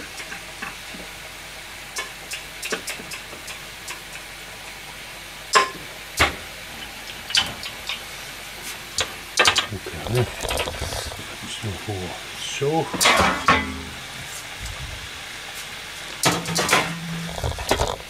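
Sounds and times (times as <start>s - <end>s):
food deep-frying in hot oil: 0.0s - 18.0s.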